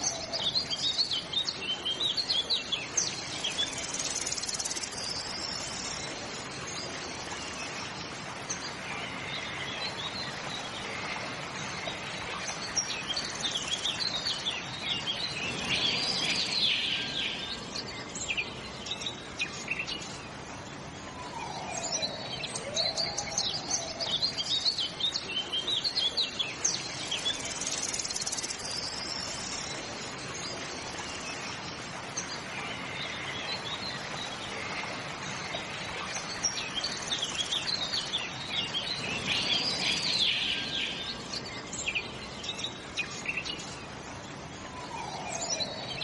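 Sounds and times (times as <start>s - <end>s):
steady outdoor hiss: 0.0s - 46.0s
birds chirping in high trills: 7.6s - 46.0s.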